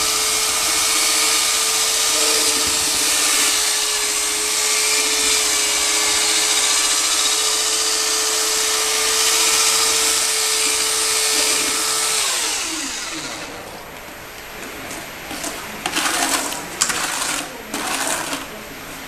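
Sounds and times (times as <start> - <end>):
drill paddle mixer running: 0.0 - 19.0.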